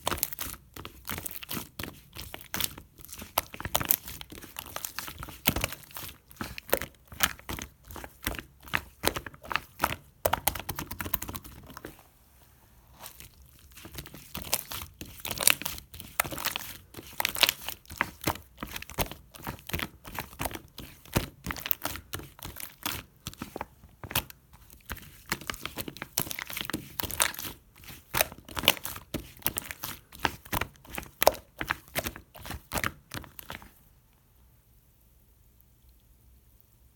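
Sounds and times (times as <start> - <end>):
slime squishing with sticky pops: 0.0 - 12.0, 12.9 - 33.8.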